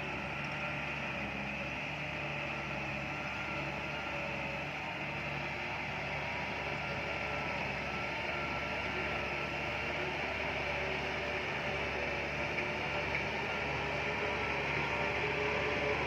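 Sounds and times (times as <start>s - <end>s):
bulldozer engine droning: 0.0s - 16.0s.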